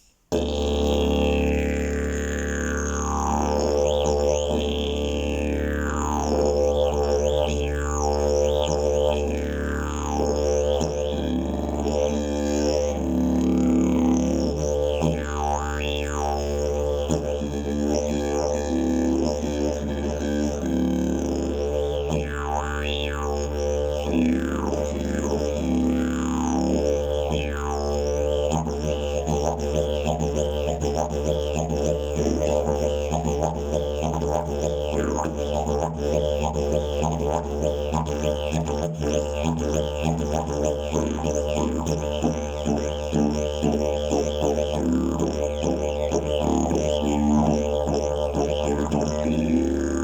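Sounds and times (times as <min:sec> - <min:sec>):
didgeridoo drone: 0:00.3 - 0:50.0.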